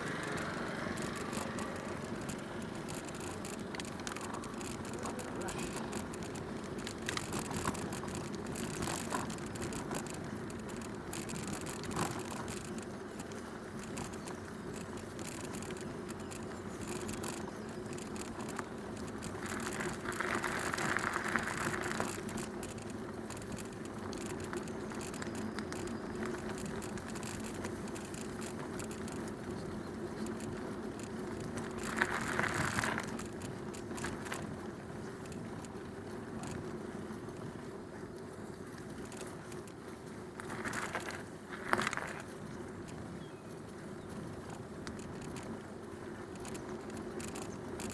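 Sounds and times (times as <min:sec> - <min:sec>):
bicycle tyres rolling with rattles: 0:00.0 - 0:47.9.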